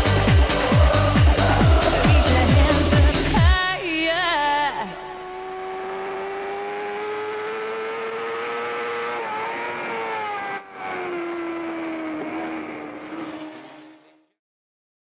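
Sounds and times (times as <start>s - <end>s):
motorcycle engine at high revs: 0.0s - 3.6s, 4.8s - 14.3s.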